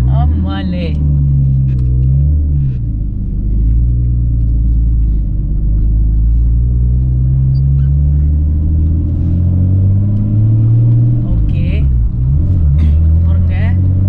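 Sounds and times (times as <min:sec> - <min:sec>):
car engine drone in cabin: 0:00.0 - 0:14.0.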